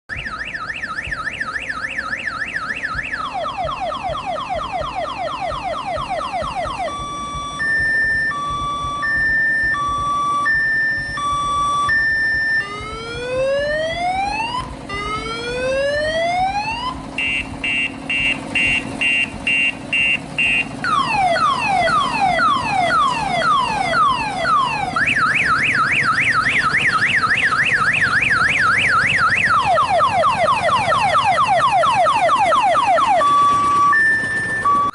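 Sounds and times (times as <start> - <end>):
electronic siren cycling tones: 0.1 - 34.9.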